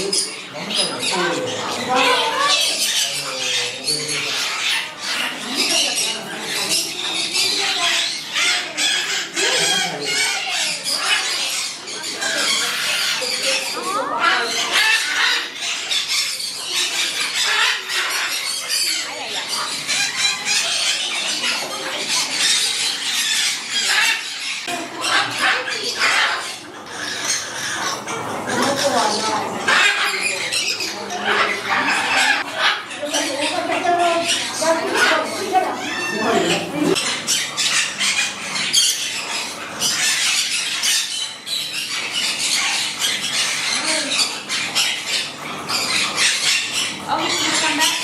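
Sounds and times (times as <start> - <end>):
birds squawking and screeching: 0.0 - 48.0.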